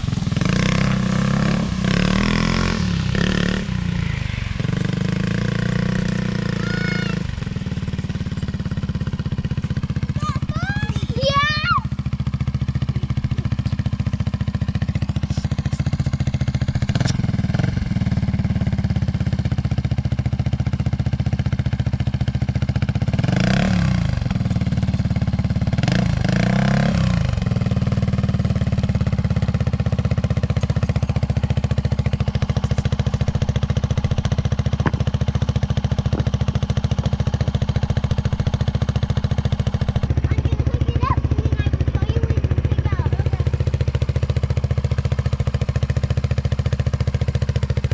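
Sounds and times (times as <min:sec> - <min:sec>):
off-road vehicle engine revving: 0:00.0 - 0:20.3, 0:21.5 - 0:47.9.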